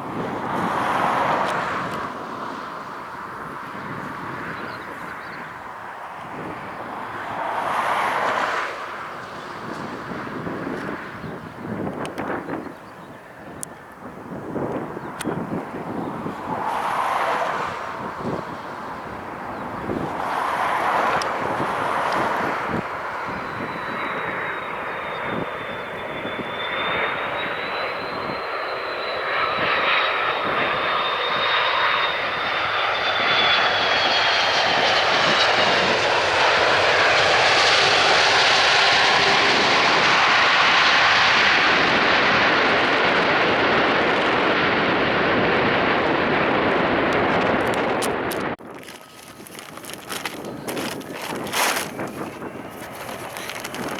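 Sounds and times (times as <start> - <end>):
jet airliner engines passing: 0.0 - 53.9.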